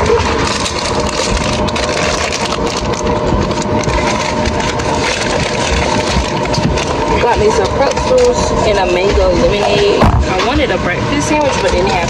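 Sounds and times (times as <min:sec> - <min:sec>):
food packaging rustling: 0:00.0 - 0:10.6
airliner cabin rushing noise: 0:00.0 - 0:12.0.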